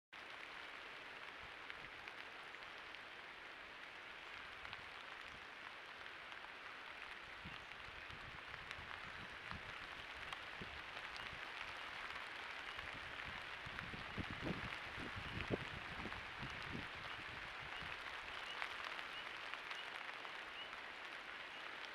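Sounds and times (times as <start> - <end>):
steady rain: 0.1 - 21.9.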